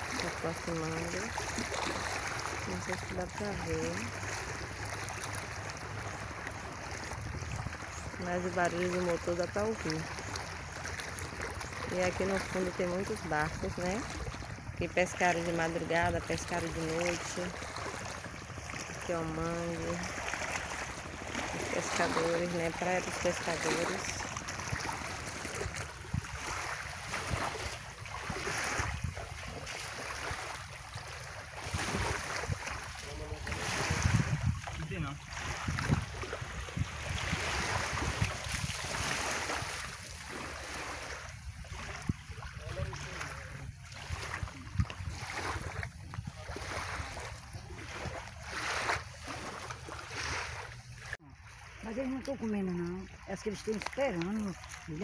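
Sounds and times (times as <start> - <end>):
wind rumbling on microphone: 0.0 - 51.2
waves lapping on rocky shore: 0.0 - 55.0.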